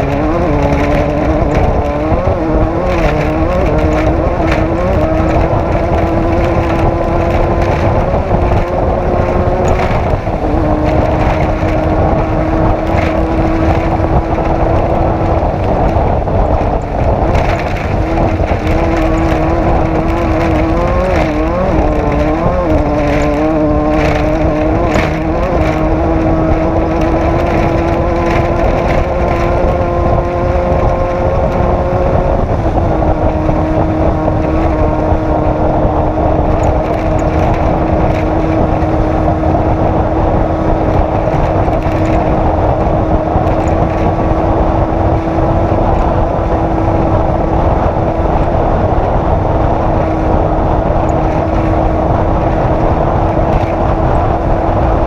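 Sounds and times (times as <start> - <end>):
race vehicle engine running hard: 0.0 - 55.0.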